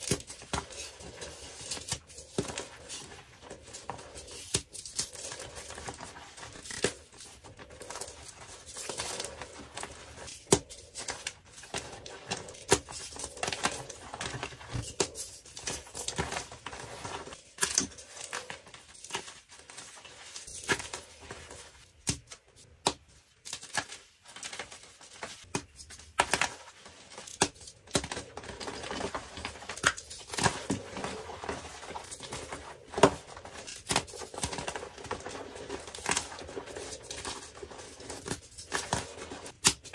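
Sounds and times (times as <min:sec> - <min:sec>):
chalk blocks crunching and snapping: 0:00.0 - 0:39.9.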